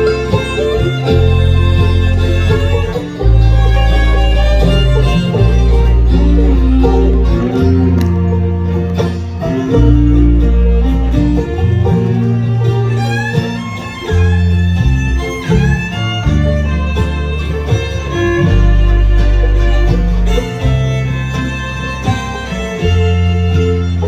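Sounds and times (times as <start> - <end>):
bluegrass band playing a waltz: 0.0 - 24.0.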